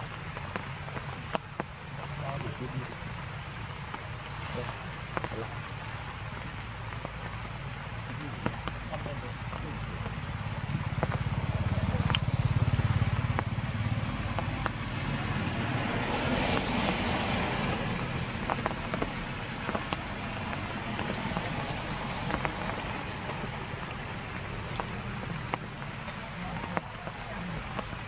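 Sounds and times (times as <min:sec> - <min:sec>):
drips and patters: 0:00.0 - 0:28.0
heavy rain hissing: 0:00.0 - 0:28.0.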